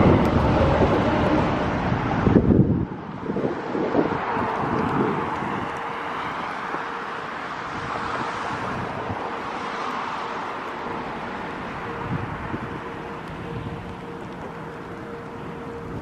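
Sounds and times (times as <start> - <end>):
vehicle noise: 0.0 - 16.0
wind buffeting microphone: 0.0 - 16.0.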